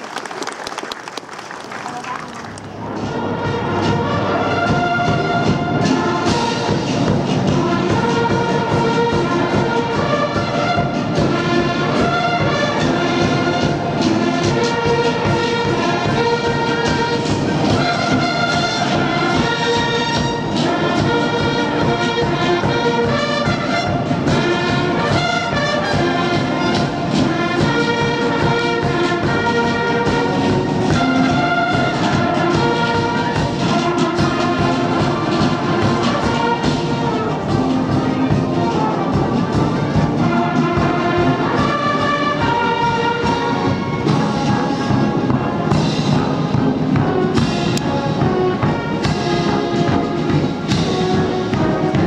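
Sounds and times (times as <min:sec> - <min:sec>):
military band and bugles playing: 0:00.0 - 0:52.0.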